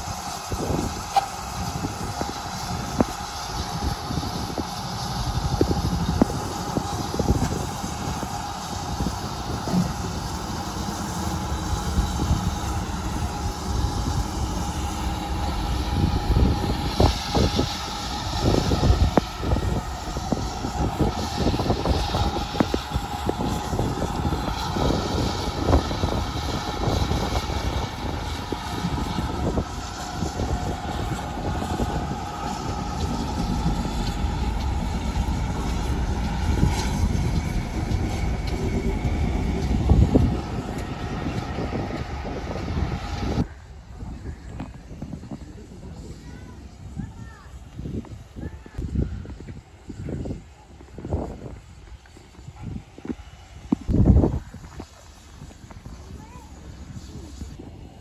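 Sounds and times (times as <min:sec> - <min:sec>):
steady low rumble: 0:00.0 - 0:58.0
steam hissing: 0:00.0 - 0:58.0
steam locomotive exhaust chuffing: 0:00.0 - 0:58.0.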